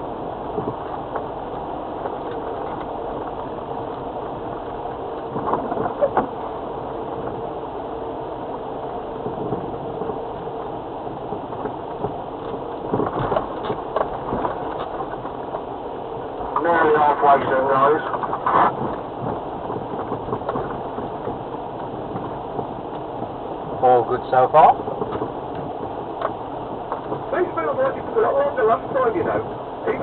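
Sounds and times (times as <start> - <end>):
vehicle knocks and clunks: 0.4 - 8.2, 9.2 - 23.8, 24.6 - 30.0.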